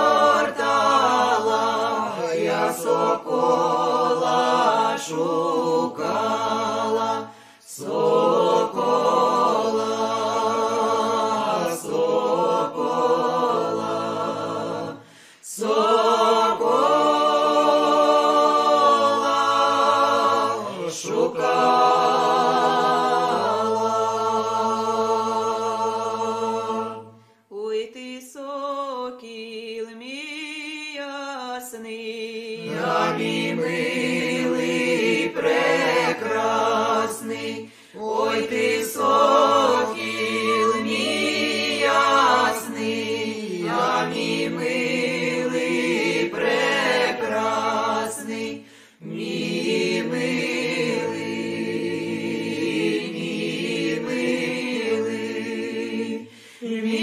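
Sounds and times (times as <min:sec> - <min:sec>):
unaccompanied choir singing: 0:00.0 - 0:57.0.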